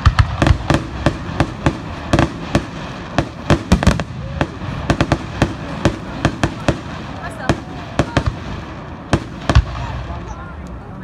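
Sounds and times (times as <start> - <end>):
fireworks bursting: 0.0 - 10.9.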